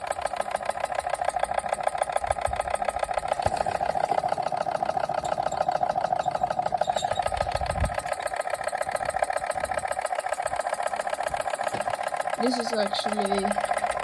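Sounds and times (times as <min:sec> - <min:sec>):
model steam engine clattering: 0:00.0 - 0:14.0.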